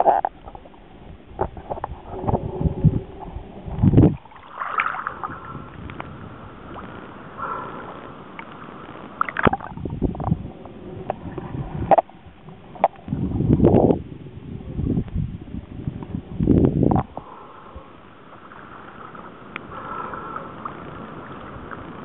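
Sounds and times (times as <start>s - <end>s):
low rumble: 0.0s - 22.0s
muffled water sloshing underwater: 0.0s - 22.0s.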